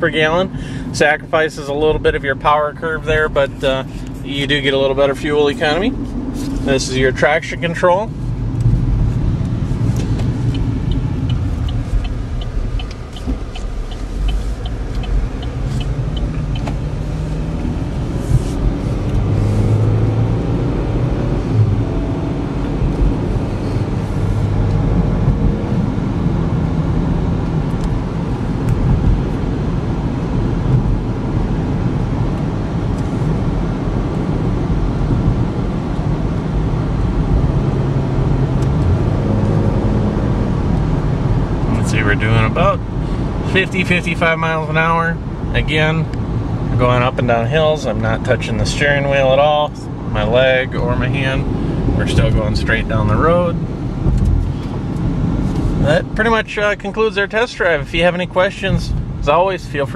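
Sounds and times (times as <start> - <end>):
car engine running: 0.0 - 59.9
road and tyre rumble: 0.0 - 59.9.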